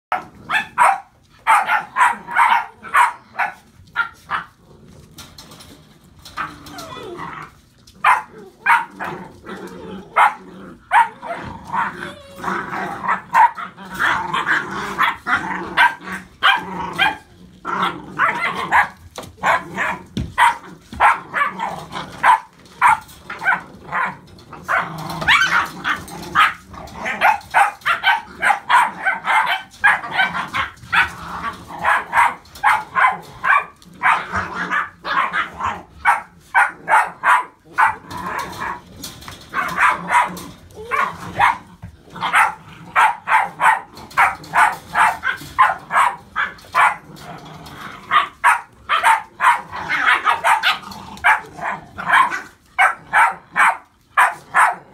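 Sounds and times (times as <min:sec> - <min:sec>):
puppies barking: 0:00.1 - 0:04.6, 0:06.3 - 0:54.9.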